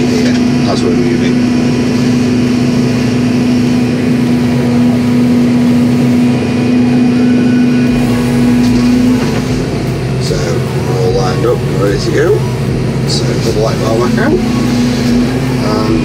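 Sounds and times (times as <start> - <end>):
excavator engine and hydraulics: 0.0 - 16.0.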